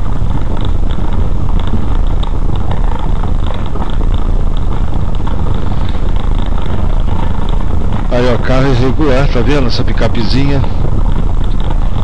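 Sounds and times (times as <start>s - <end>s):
tyres and engine rumbling: 0.0s - 12.0s.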